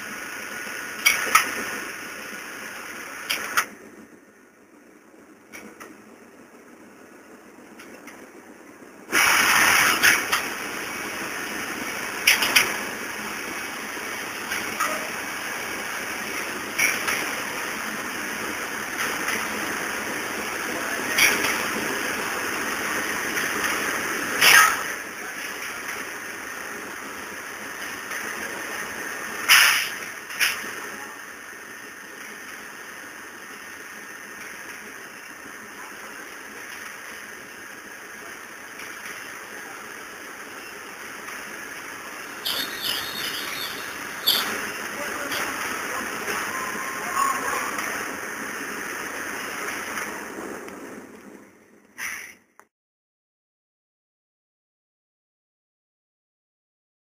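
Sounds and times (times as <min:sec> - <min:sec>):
forklift machine noise: 0:04.7 - 0:52.3.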